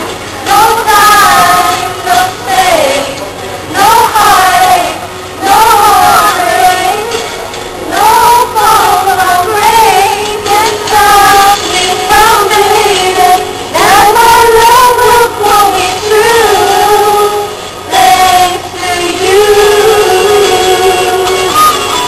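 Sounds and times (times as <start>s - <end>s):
women singing together: 0.0s - 22.0s.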